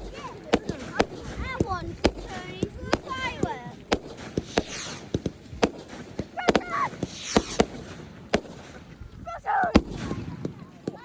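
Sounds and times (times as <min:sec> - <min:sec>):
fireworks bangs and cracks: 0:00.0 - 0:11.0
fireworks hissing and crackling: 0:00.0 - 0:11.0.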